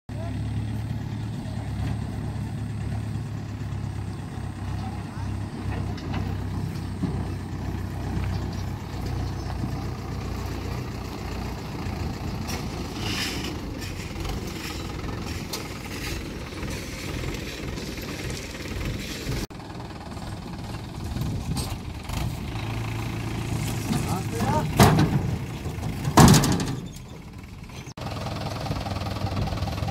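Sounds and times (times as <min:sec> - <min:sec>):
tractor diesel engine running: 0:00.1 - 0:29.9.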